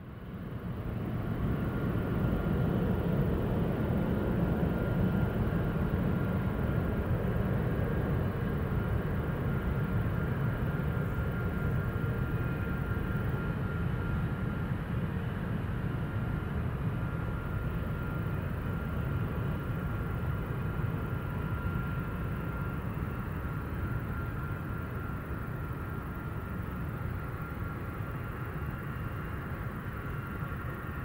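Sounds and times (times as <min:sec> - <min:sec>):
jet engines running steadily: 0:00.0 - 0:31.0.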